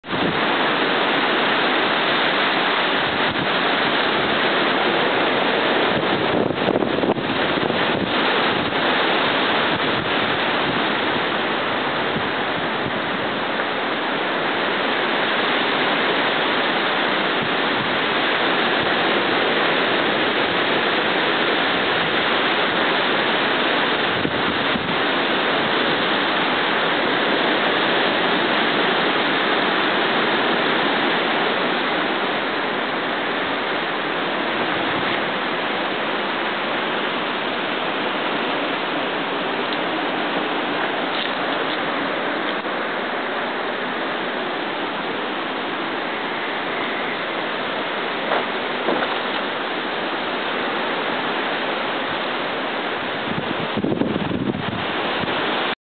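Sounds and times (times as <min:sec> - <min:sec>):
hurricane wind and rain: 0:00.0 - 0:55.8.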